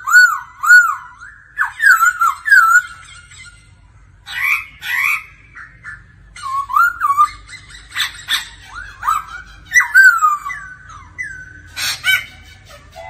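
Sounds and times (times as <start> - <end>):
bird singing whistled phrases: 0.0 - 3.4, 4.3 - 12.2.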